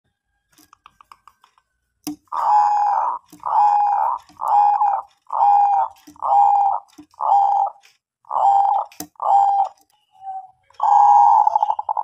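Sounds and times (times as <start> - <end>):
dove cooing: 2.3 - 12.0.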